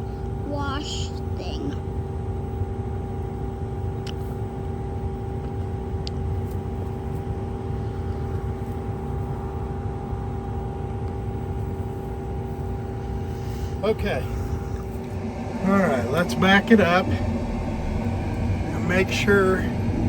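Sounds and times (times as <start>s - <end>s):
engine rumble: 0.0s - 20.0s
mechanical hum: 0.0s - 20.0s.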